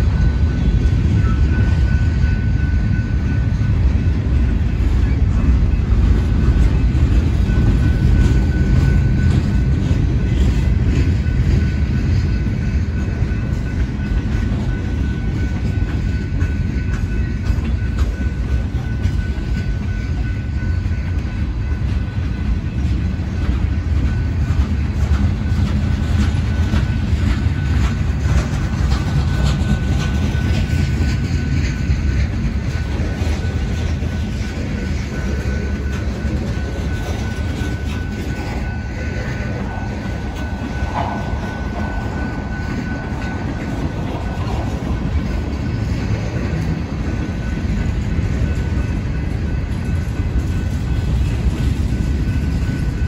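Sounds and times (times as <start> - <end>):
freight train rumbling past: 0.0 - 53.0
wheels clicking over rail joints: 4.9 - 53.0.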